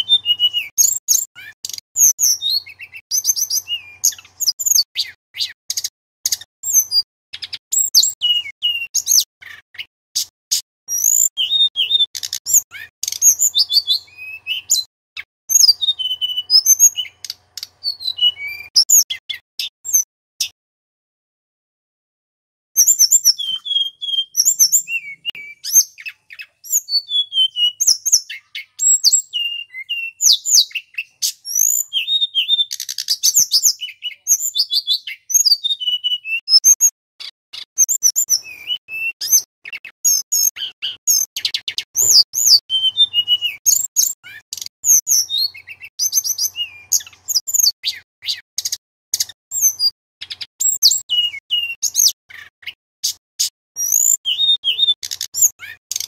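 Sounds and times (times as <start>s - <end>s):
bird whistling and chirping: 0.0s - 10.3s, 10.9s - 20.5s, 22.8s - 56.0s.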